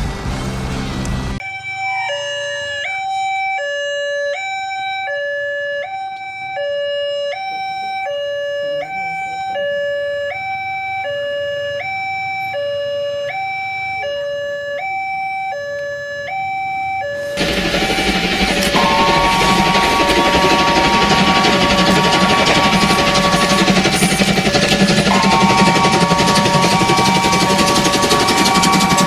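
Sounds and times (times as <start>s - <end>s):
two-tone crossing warning alarm: 1.4s - 29.0s.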